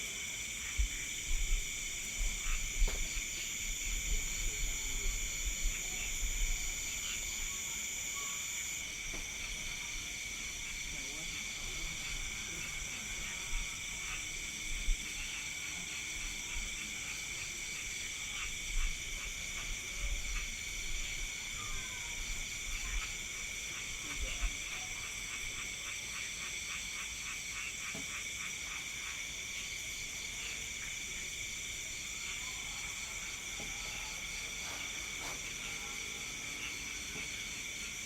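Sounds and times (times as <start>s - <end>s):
crickets ringing: 0.2s - 38.0s.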